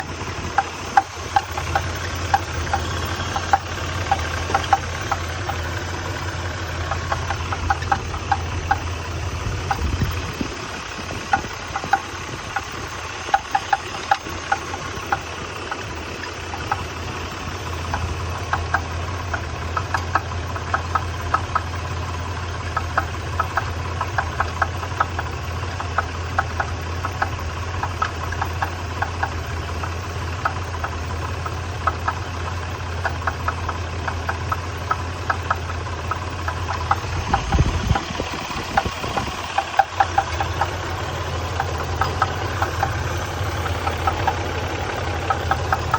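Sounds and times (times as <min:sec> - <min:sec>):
car engine idling with knock: 0:00.0 - 0:45.9.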